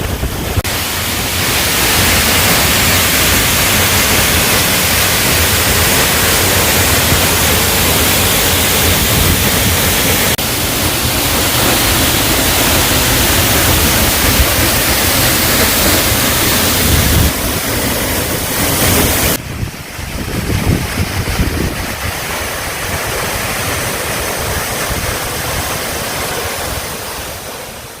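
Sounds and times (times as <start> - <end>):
gusty low rumble: 0.0 - 25.8
waterfall rushing: 0.0 - 28.0.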